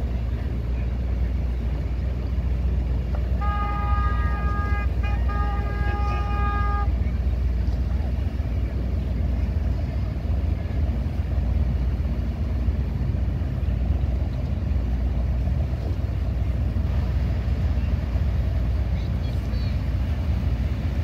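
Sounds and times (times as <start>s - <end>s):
motorboat engines rumbling: 0.0s - 21.0s.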